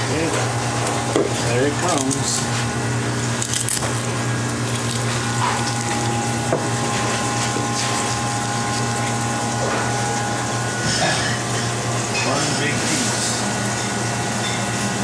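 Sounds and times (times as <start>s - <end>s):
kitchen machinery hum and hiss: 0.0s - 15.0s
thin whine: 0.0s - 15.0s.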